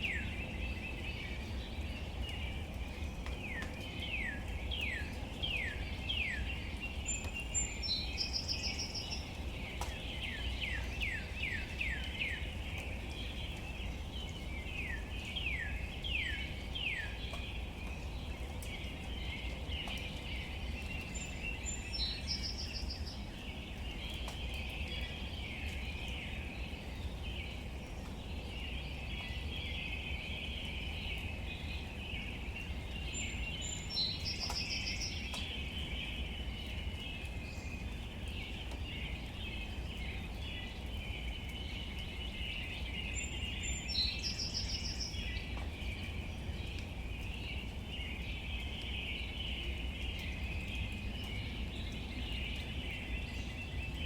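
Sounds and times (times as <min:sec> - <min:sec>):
birds calling: 0:00.0 - 0:54.0
gentle rain on leaves: 0:00.0 - 0:54.0.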